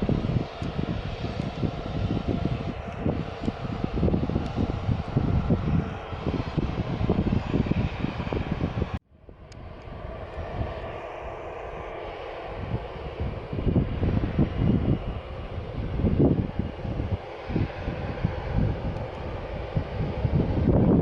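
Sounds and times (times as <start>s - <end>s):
jet airliner engines running: 0.0s - 21.0s
wind buffeting microphone: 0.0s - 21.0s.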